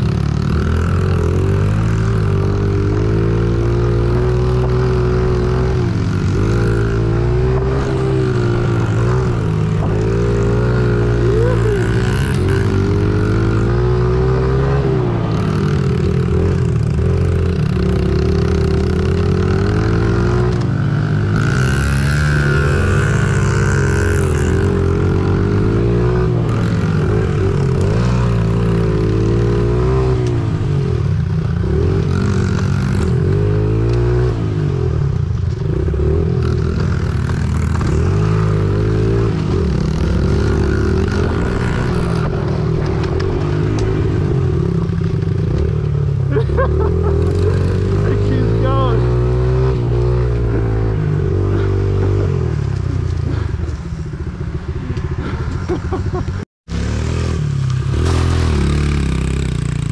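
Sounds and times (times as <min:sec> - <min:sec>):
minibike engine revving: 0:00.0 - 0:59.9.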